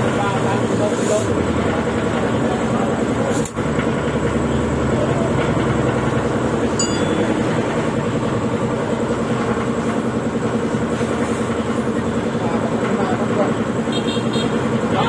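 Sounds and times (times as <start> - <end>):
motor scooter engine idling: 0.0 - 15.0.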